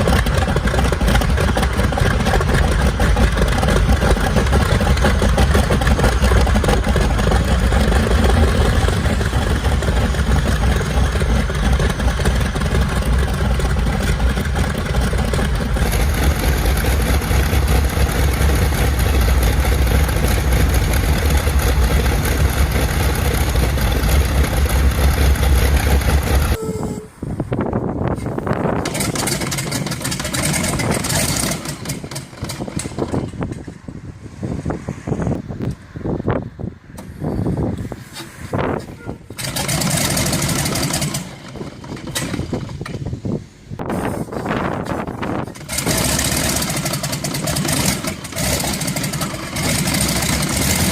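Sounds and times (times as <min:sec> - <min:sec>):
piston aircraft engine running: 0:00.0 - 0:26.8, 0:27.7 - 0:34.6, 0:37.0 - 0:50.9.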